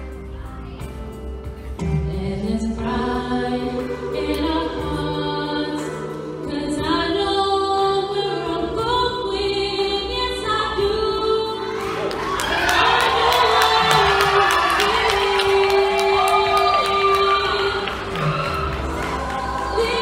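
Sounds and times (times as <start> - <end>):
woman singing with vibrato: 2.0 - 20.0.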